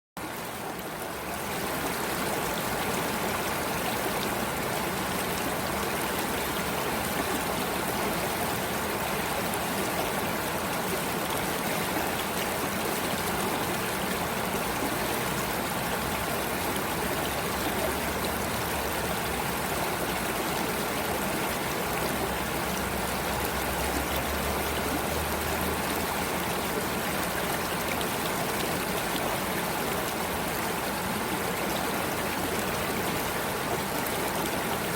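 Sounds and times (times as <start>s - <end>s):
water rushing in stream: 0.2s - 34.9s.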